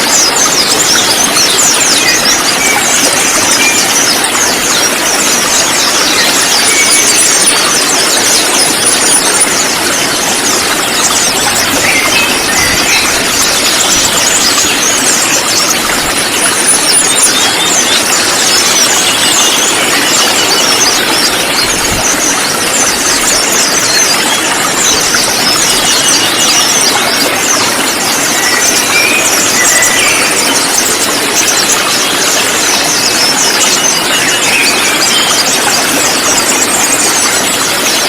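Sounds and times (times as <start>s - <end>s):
birds chirping and trilling: 0.0s - 38.0s.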